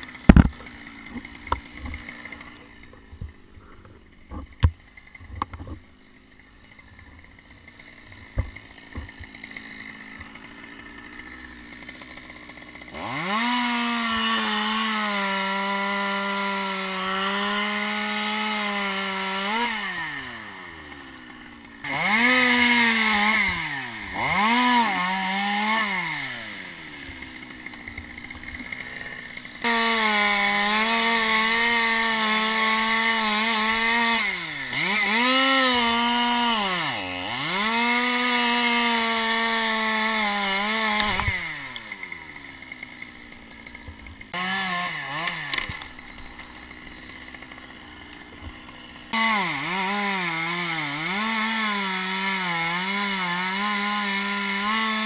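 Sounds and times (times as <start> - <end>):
chainsaw cutting wood: 0.0 - 55.0
chainsaw idling: 0.0 - 55.0.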